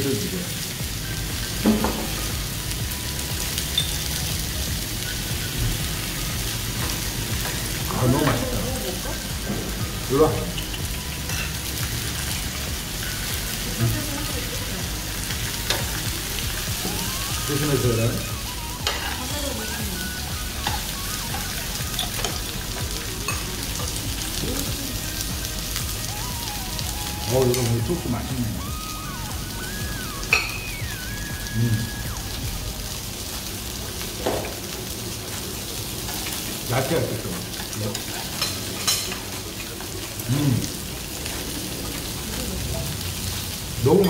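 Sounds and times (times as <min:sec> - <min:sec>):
meat sizzling on grill pan: 0:00.0 - 0:44.0.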